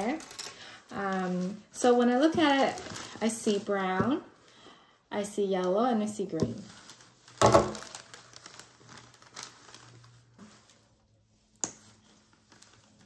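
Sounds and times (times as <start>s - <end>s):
crinkling rustle: 0.0s - 13.0s.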